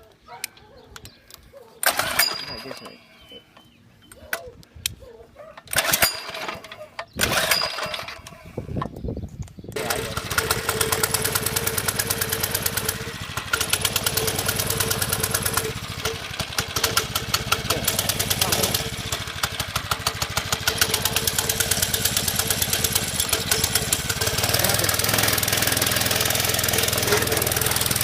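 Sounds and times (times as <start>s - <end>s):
small engine starting and running: 1.8s - 3.2s, 5.6s - 8.8s, 9.7s - 28.0s.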